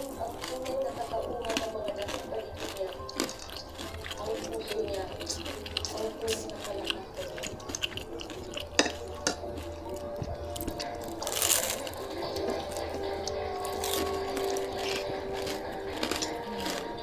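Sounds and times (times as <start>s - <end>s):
wet chewing and mouth sounds: 0.0s - 17.0s.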